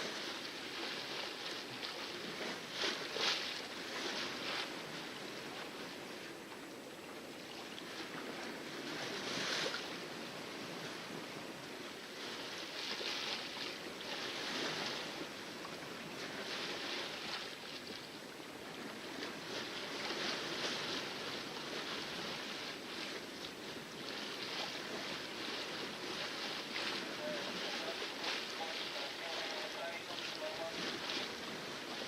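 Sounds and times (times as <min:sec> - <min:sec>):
water splashing against hull: 0:00.0 - 0:32.0.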